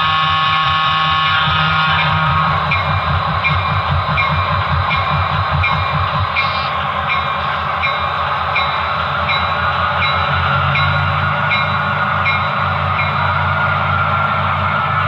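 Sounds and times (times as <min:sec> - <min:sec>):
model train low pulsing: 0:00.0 - 0:15.0.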